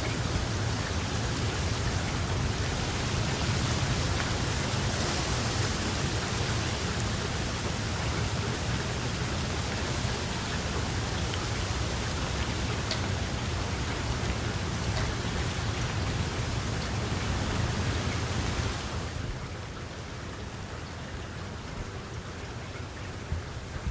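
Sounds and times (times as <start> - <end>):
steady rain: 0.0 - 23.9.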